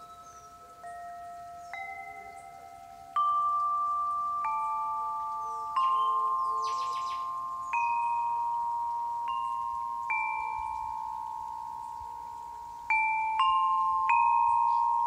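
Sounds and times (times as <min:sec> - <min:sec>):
crystal harp notes ringing: 0:00.0 - 0:15.0.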